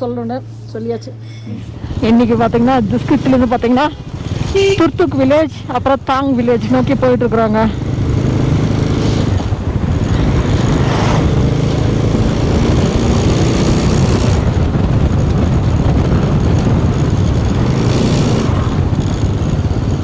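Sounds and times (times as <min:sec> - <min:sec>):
wind rush and road noise: 0:01.5 - 0:20.0
motorcycle engine at speed: 0:01.6 - 0:20.0.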